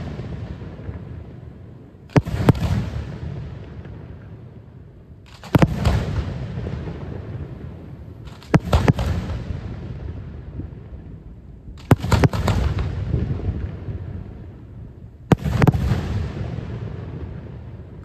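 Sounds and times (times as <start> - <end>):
fireworks bangs: 0.0 - 4.5, 5.3 - 11.0, 11.7 - 14.7, 15.3 - 18.0
rumbling echo: 0.0 - 18.0.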